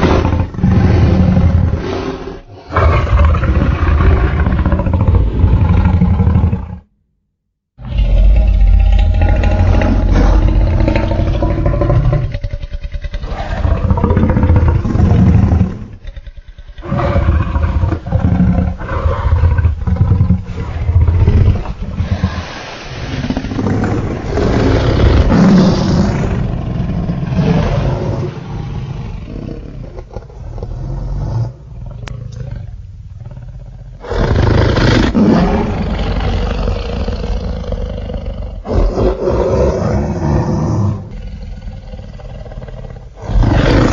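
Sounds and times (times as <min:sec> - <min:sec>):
deep dinosaur roars and growls: 0:00.0 - 0:06.9, 0:07.8 - 0:43.9.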